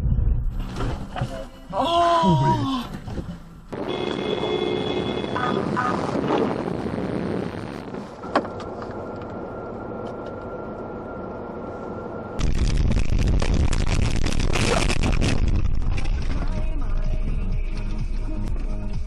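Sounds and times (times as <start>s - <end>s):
car road and engine noise: 0.0s - 1.9s, 2.6s - 19.0s.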